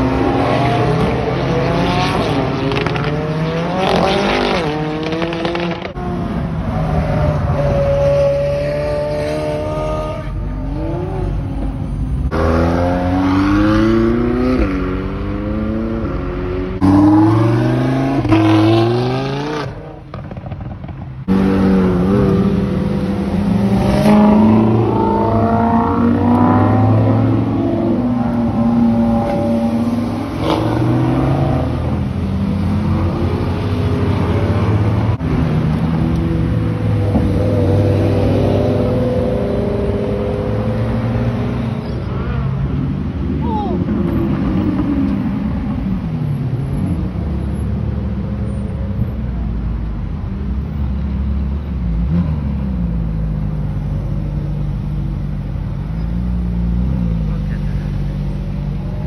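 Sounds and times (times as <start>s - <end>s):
car engines accelerating hard: 0.0s - 59.0s.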